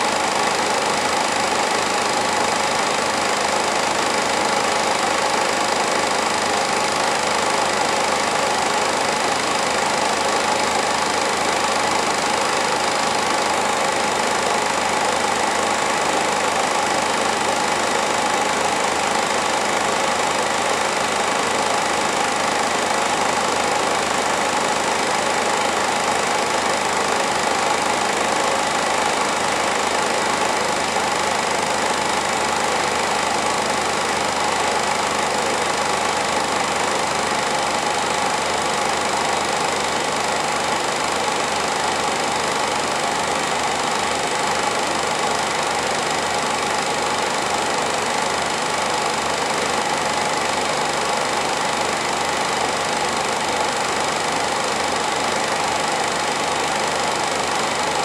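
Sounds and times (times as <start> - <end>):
film advancing clatter: 0.0 - 58.0
film projector whirring: 0.0 - 58.0.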